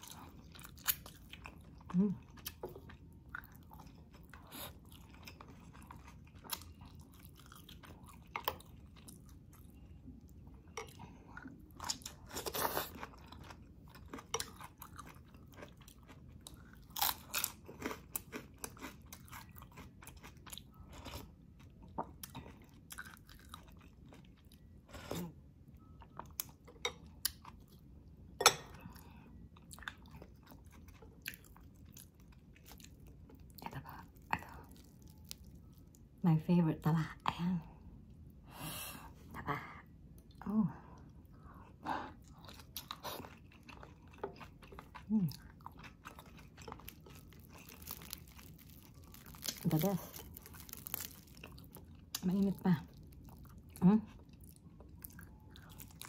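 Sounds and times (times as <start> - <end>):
chewing food: 0.0 - 27.9, 28.7 - 36.0, 41.0 - 56.0.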